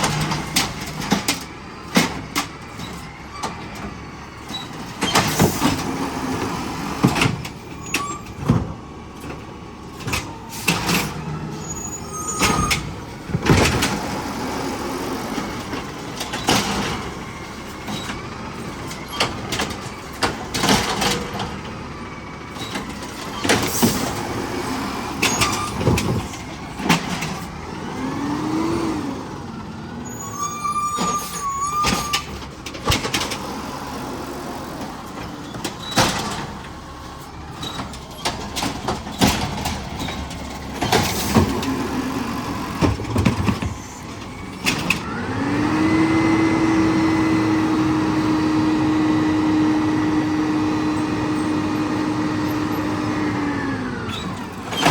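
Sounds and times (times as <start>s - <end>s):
garbage truck bangs and clanks: 0.0s - 54.9s.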